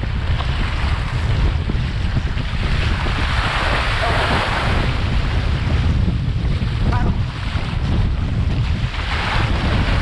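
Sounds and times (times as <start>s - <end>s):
rushing splashing water: 0.0s - 10.0s
wind buffeting microphone: 0.0s - 10.0s.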